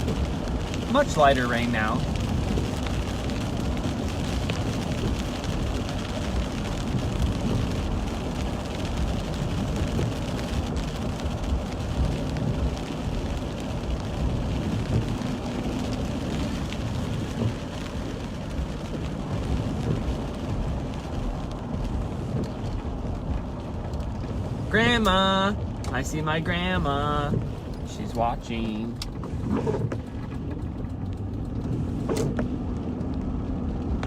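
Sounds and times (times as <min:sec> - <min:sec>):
car tyres on wet road: 0:00.0 - 0:34.0
light rain: 0:00.0 - 0:34.0.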